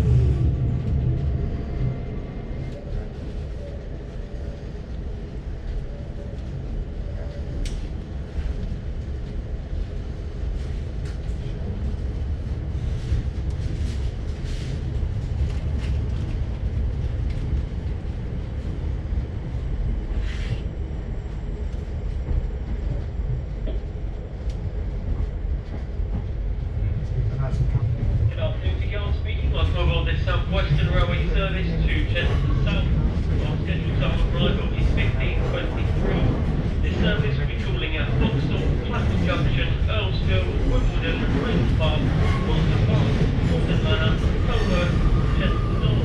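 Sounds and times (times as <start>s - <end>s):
train rumble inside carriage: 0.0s - 46.0s.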